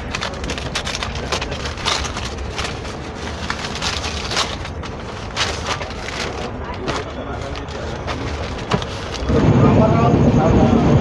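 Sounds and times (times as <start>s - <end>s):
paper tearing and crumpling: 0.0s - 9.4s.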